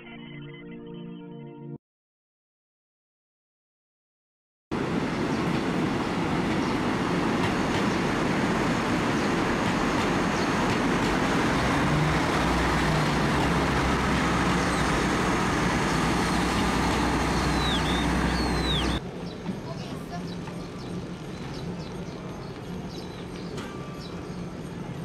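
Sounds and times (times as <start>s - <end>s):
train rumbling on rails: 4.7s - 25.0s.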